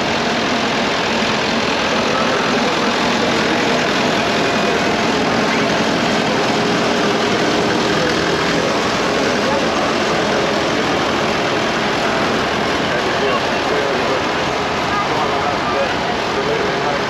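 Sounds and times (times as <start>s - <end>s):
combine harvester engine running: 0.0s - 17.0s.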